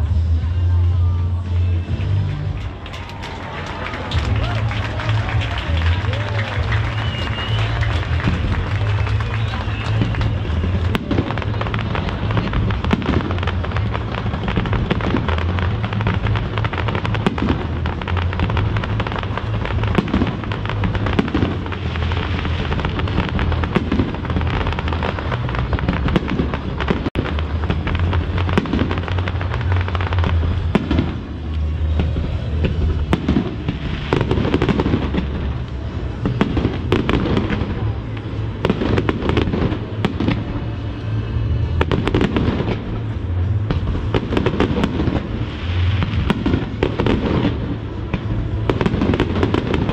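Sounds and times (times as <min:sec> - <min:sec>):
fireworks bursting: 0:00.0 - 0:49.9
music over outdoor loudspeakers: 0:00.0 - 0:49.9.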